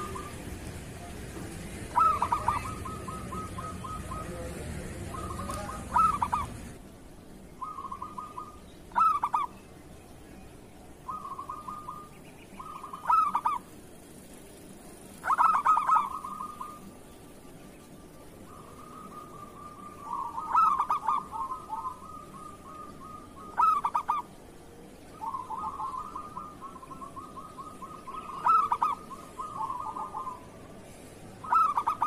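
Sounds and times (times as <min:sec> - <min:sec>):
dove cooing: 0:00.0 - 0:01.1, 0:01.7 - 0:06.8, 0:07.6 - 0:09.6, 0:11.0 - 0:14.1, 0:15.1 - 0:17.1, 0:18.0 - 0:32.0
low background hum: 0:00.0 - 0:32.0.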